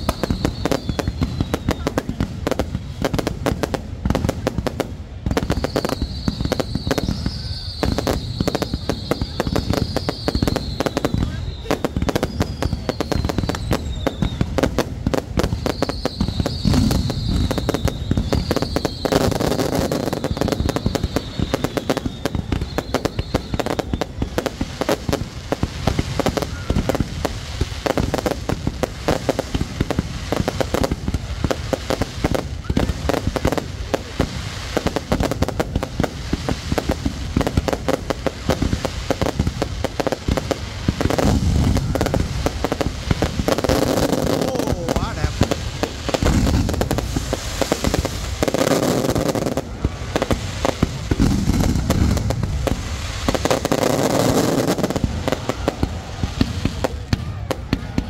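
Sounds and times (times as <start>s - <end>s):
high wavering firework whistles: 0.0s - 3.6s, 5.2s - 58.0s
fireworks bangs and crackles: 0.0s - 58.0s.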